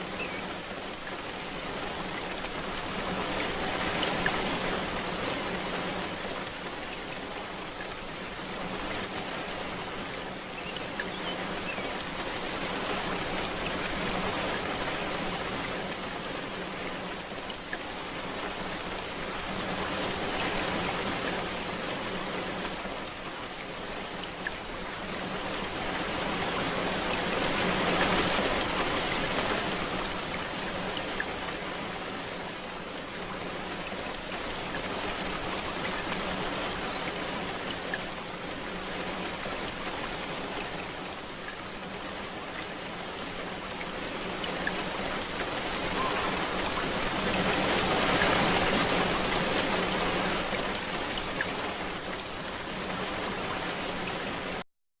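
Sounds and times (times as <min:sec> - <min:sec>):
steady rain falling: 0:00.0 - 0:54.6.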